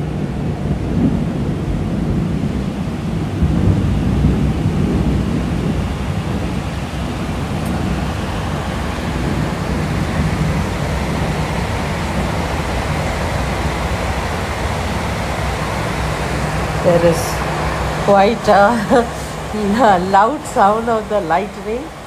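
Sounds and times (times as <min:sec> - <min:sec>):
heavy rain pouring: 0:00.0 - 0:22.0
thunder rumbling: 0:00.0 - 0:22.0.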